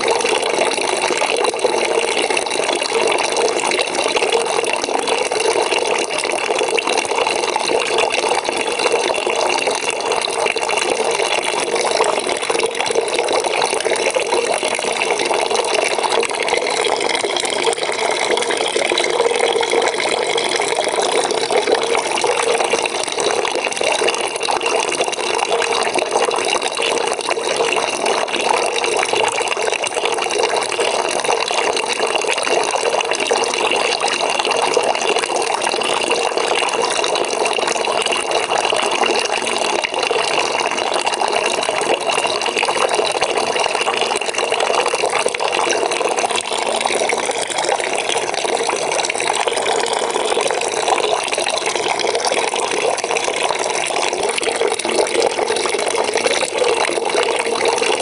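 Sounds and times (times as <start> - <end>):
tap water filling a bucket: 0.0 - 58.0.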